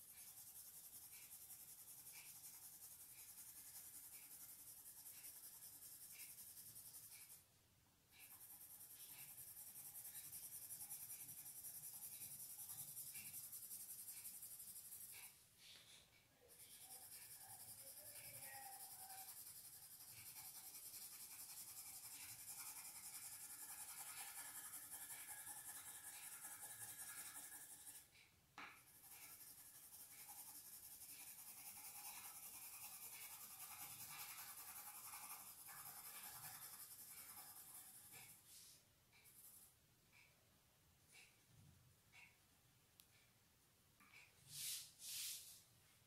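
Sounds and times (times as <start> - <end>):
drawing tool scratching paper: 0.0 - 7.5, 8.1 - 28.1, 28.8 - 39.7.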